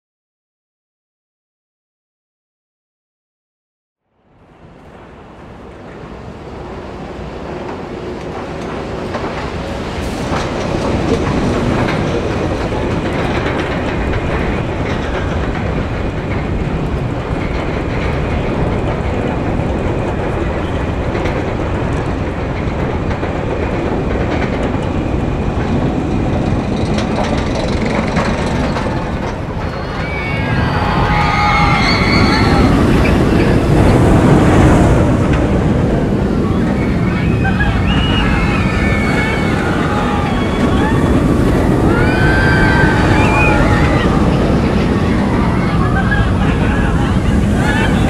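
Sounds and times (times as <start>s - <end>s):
roller coaster mechanical rumble: 4.3s - 48.0s
roller coaster clattering: 4.5s - 48.0s.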